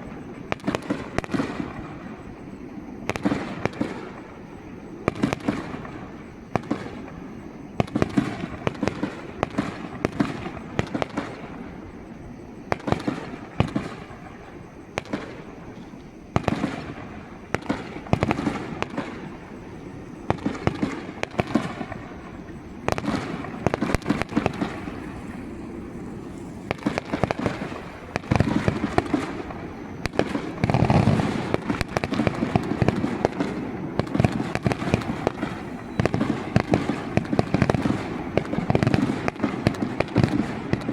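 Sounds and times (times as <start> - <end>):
fireworks cracking: 0.0 - 40.9
deep firework booms: 5.0 - 40.9.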